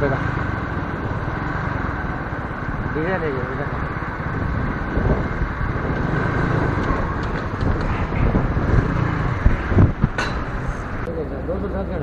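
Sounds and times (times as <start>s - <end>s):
wind rumbling on microphone: 0.0s - 11.1s.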